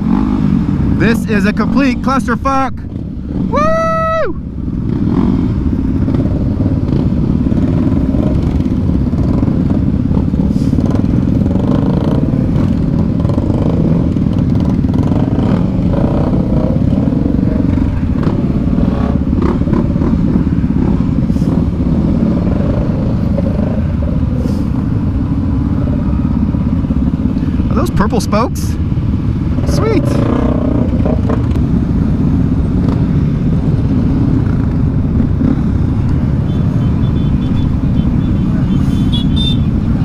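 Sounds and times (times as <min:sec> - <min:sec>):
dirt bike engines idling and revving: 0:00.0 - 0:40.0.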